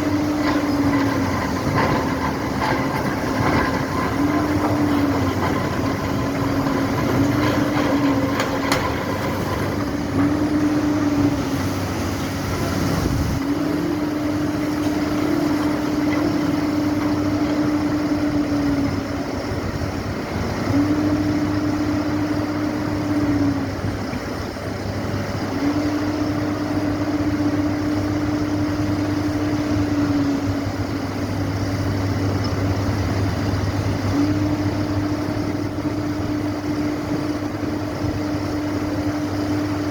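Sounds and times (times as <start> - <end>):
engine-driven machinery running: 0.0 - 39.9.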